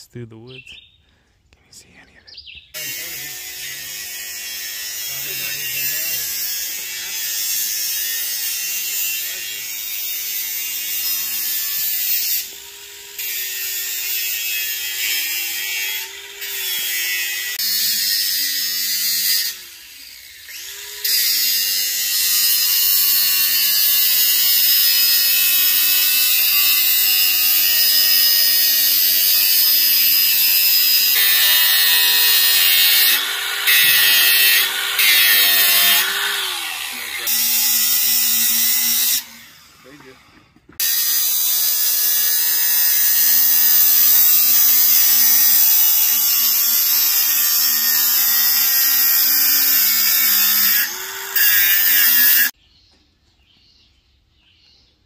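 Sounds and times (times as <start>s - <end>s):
angle grinder grinding steel: 2.8s - 52.6s.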